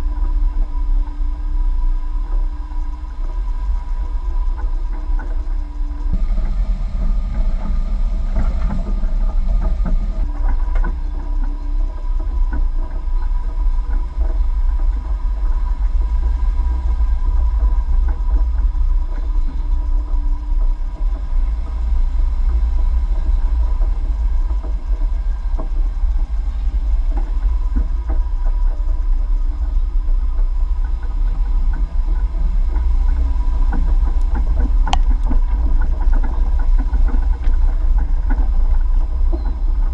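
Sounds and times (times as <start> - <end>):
off-road vehicle engine rumbling: 0.0 - 39.9.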